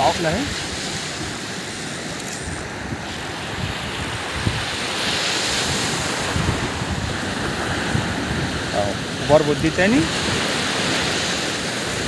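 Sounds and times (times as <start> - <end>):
surf washing on shore: 0.0 - 12.0
wind on microphone: 0.0 - 12.0.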